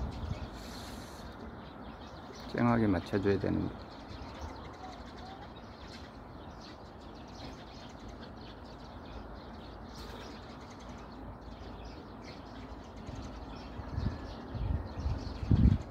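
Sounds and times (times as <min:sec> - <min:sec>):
sparrows chirping: 0:00.0 - 0:15.9.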